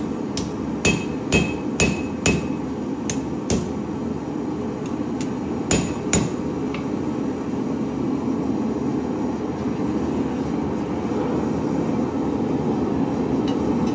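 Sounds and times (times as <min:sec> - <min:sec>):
gas forge burner roaring: 0:00.0 - 0:13.9.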